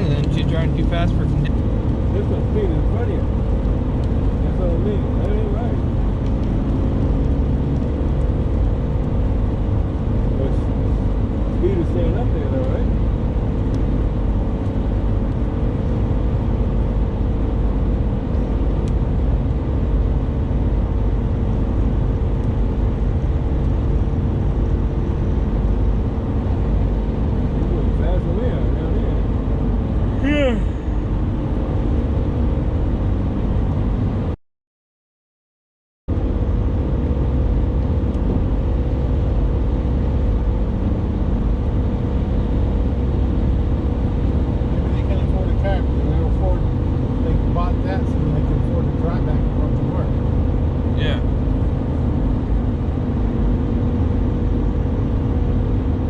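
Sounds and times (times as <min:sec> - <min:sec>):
vehicle cabin road noise: 0:00.0 - 0:34.4, 0:36.1 - 0:56.0.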